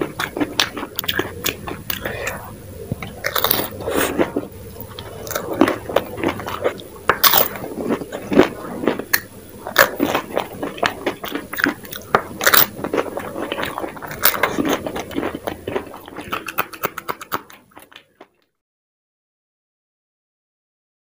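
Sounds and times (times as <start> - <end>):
small crackles biting chili: 0.0 - 18.5
crunching and chewing food: 0.0 - 18.6.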